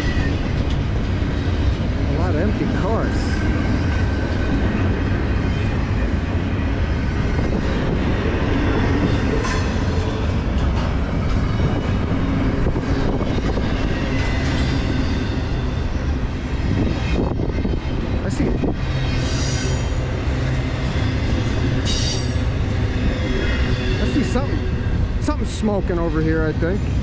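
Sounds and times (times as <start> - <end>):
steel wheels rumbling on rails: 0.0 - 27.0.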